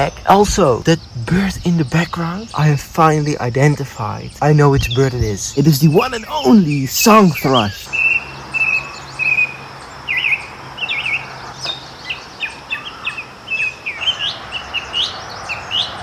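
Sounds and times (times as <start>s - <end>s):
thrush singing: 0.0s - 16.0s.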